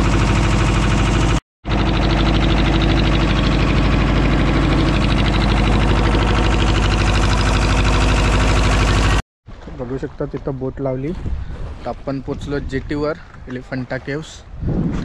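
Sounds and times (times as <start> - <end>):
boat engine running: 0.0 - 14.3.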